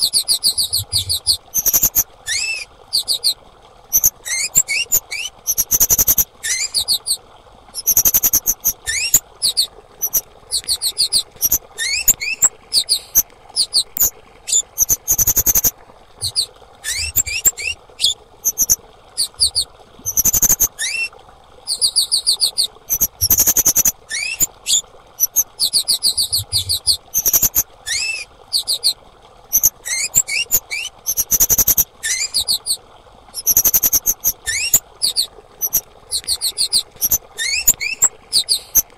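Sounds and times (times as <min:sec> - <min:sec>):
faint steady hiss: 0:00.0 - 0:38.9
insect high chirps: 0:00.3 - 0:03.3, 0:03.9 - 0:07.0, 0:07.8 - 0:20.7, 0:22.9 - 0:28.0, 0:29.5 - 0:32.5, 0:33.4 - 0:38.8.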